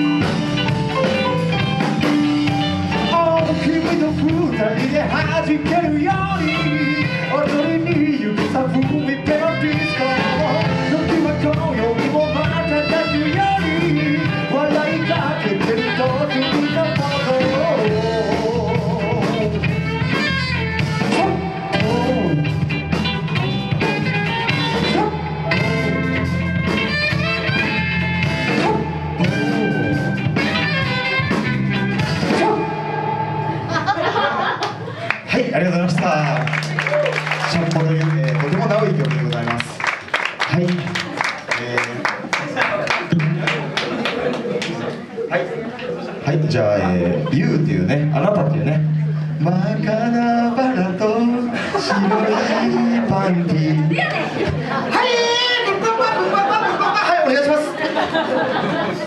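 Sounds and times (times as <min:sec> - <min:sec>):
live blues-rock band: 0:00.0 - 0:41.5, 0:45.8 - 0:59.0.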